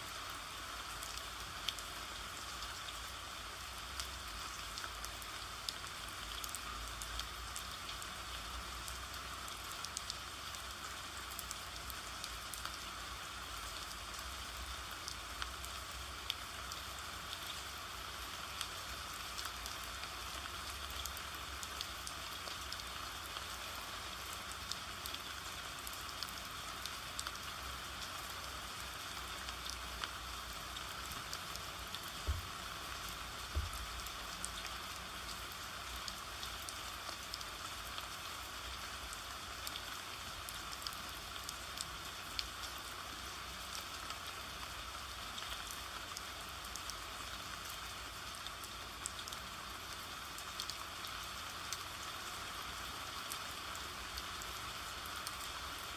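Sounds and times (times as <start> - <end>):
raindrops ticking on surface: 0.0 - 55.9
steady rain hiss: 0.0 - 55.9.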